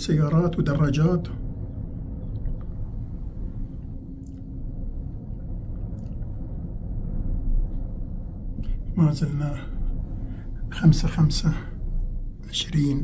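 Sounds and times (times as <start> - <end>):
cable car cabin rumble: 0.0 - 13.0.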